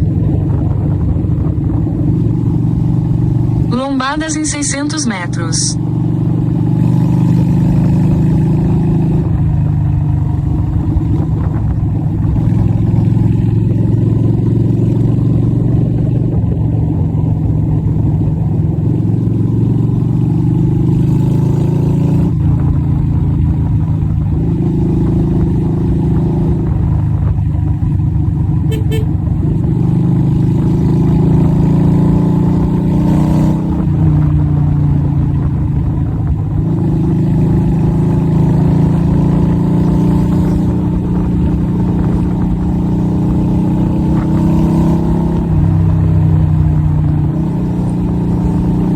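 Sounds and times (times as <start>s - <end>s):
motorcycle engine revving: 5.8s - 48.9s.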